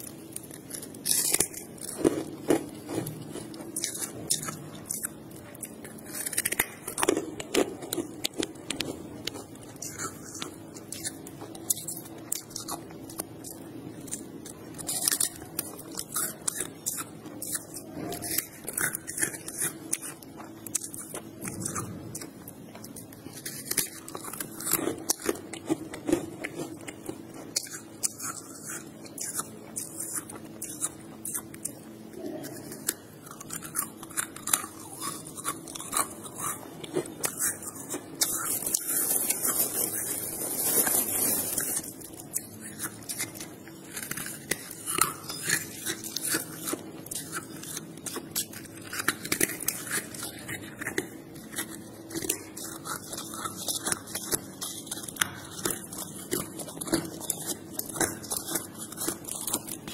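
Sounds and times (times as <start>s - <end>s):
person chewing crunchy frost: 0.0s - 59.9s.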